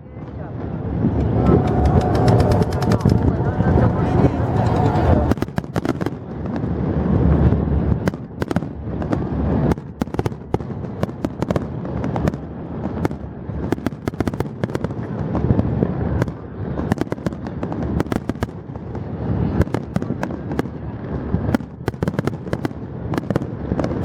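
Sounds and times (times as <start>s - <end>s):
fireworks crackling: 0.3s - 24.0s.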